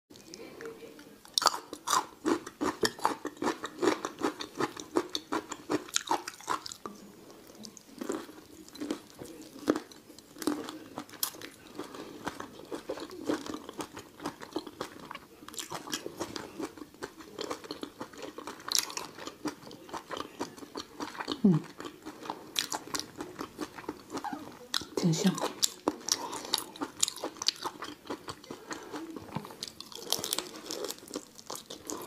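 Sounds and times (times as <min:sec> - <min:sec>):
wet chewing and lip-smacking: 0:01.4 - 0:06.9, 0:07.6 - 0:32.0.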